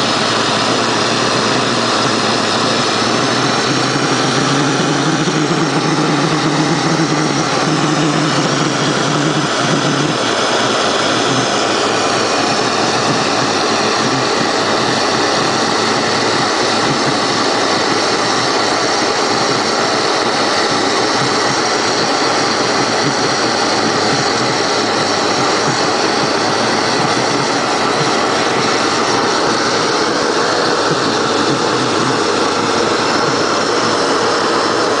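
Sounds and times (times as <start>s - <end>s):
jet burner flame rushing: 0.0s - 35.0s
low hum: 0.0s - 35.0s.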